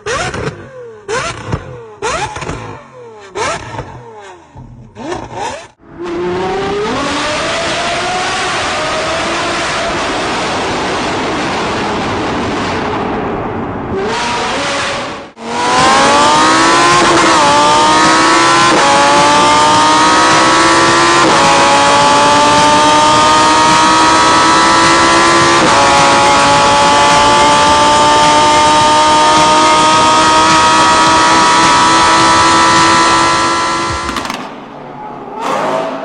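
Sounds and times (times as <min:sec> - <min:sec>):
sports car engine accelerating: 0:00.0 - 0:34.3.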